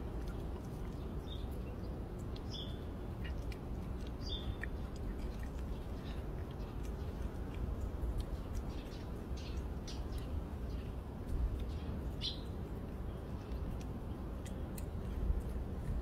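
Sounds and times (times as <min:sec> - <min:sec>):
cat chewing wet food: 0:00.0 - 0:16.0
low outdoor rumble: 0:00.0 - 0:16.0.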